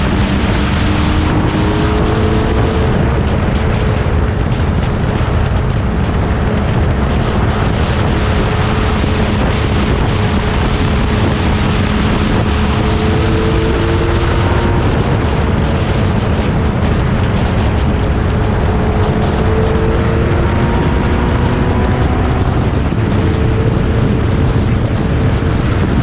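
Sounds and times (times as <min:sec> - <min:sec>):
racing car engines rumbling: 0:00.0 - 0:26.0
wind buffeting microphone: 0:00.0 - 0:26.0.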